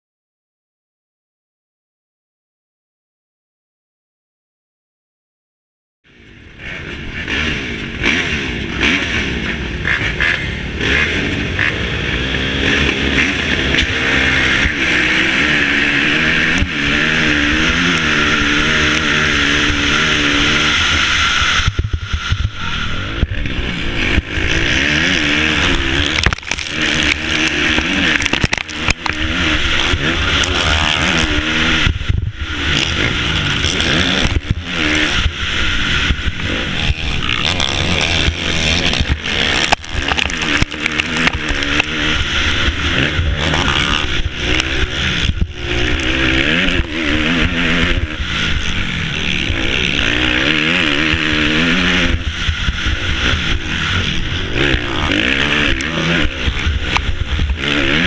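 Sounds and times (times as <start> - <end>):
dirt bike engine at full throttle: 6.1 - 58.0.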